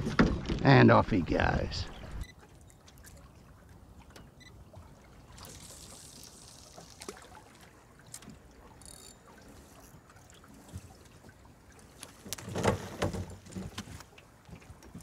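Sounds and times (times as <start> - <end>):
water lapping against boat hull: 1.8 - 15.0.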